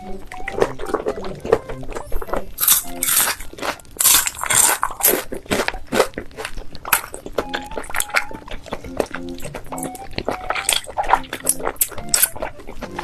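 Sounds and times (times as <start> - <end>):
crunching and chewing crispy food: 0.0 - 13.0.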